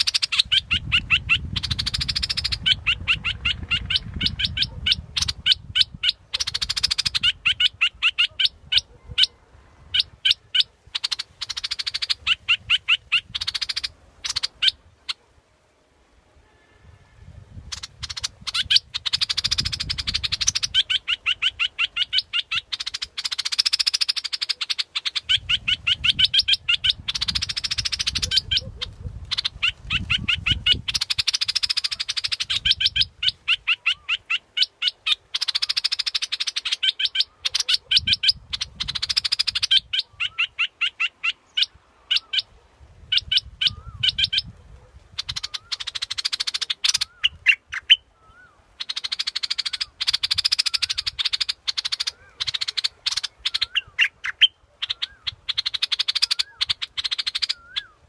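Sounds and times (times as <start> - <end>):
bird chattering calls: 0.0 - 15.2, 17.6 - 44.5, 45.1 - 58.0.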